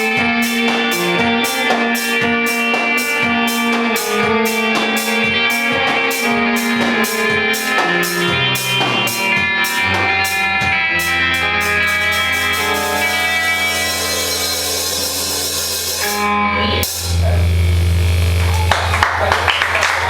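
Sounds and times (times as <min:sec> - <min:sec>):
cymbal beat: 0:00.0 - 0:19.0
drum kit: 0:00.0 - 0:20.0
electric guitar: 0:00.0 - 0:20.0.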